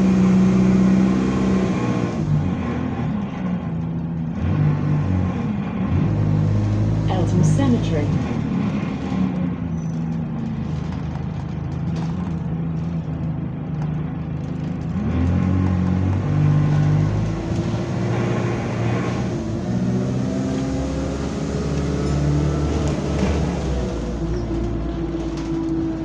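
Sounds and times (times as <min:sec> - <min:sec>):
bus engine accelerating: 0:00.0 - 0:26.0.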